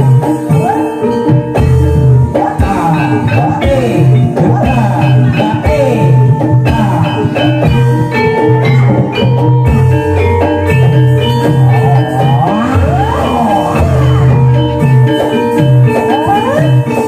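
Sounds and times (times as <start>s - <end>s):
struck keyed instruments ringing: 0.0s - 17.0s.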